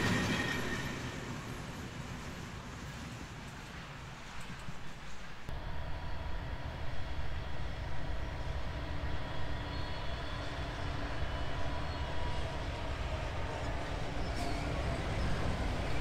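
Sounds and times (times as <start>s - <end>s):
distant diesel locomotive rumble: 0.0s - 16.0s.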